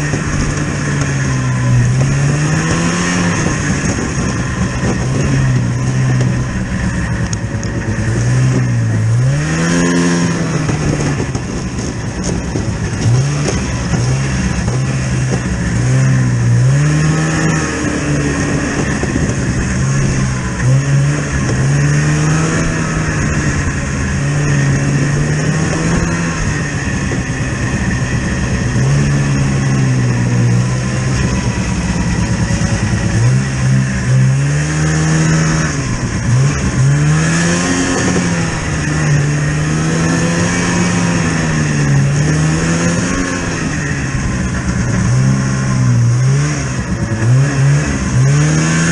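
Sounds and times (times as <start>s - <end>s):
vehicle engine revving: 0.0s - 48.9s.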